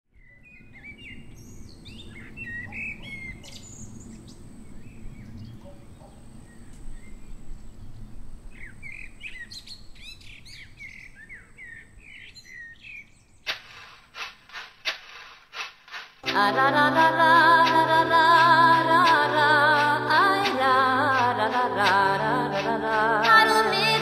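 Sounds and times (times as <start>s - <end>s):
songbirds chirping and singing: 0.1s - 13.5s, 16.2s - 24.0s.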